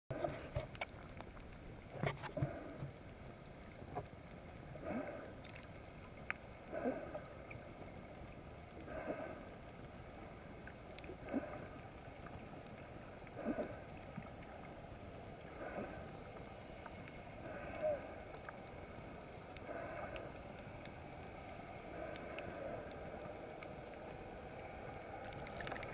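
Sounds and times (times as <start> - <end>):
muffled underwater sloshing: 0.1 - 25.9.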